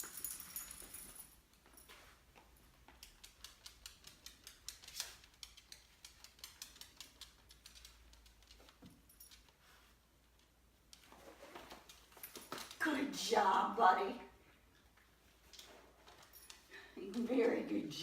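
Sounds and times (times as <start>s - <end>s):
dog's nails ticking on hard floor: 0.0s - 12.9s, 15.4s - 18.0s.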